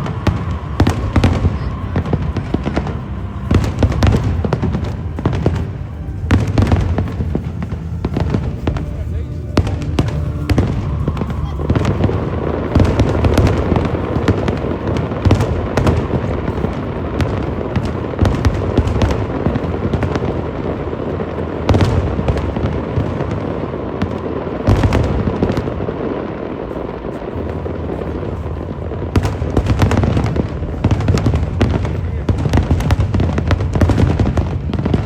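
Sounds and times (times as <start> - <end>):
fireworks bangs and crackles: 0.0 - 35.0
steady rumble: 0.0 - 35.0.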